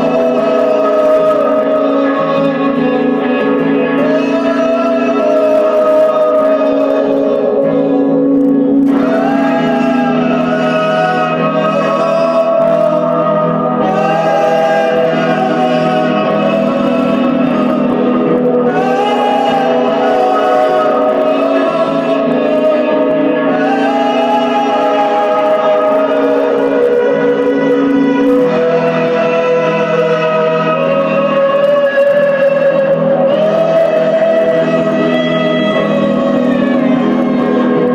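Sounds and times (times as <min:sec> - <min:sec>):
choir-like held sung tones: 0:00.0 - 0:37.9.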